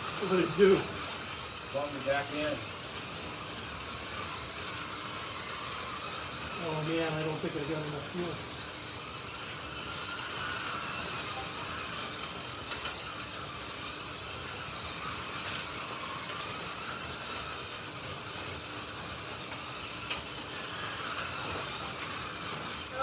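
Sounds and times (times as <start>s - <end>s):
slot car electric motor whine: 0.0s - 23.0s.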